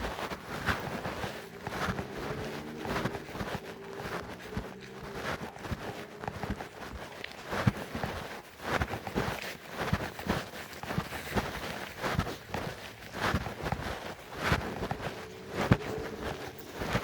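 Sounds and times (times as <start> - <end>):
footsteps on trail: 0.0 - 17.0.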